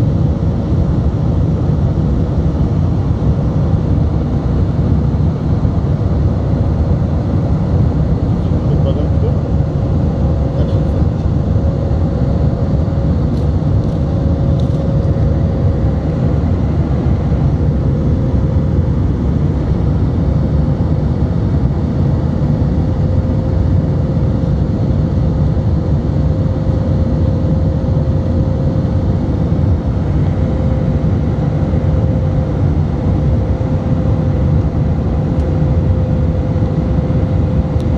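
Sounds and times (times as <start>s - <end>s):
jet engines and rushing air: 0.0s - 37.9s
steady mid-pitched cabin hum: 0.0s - 37.9s.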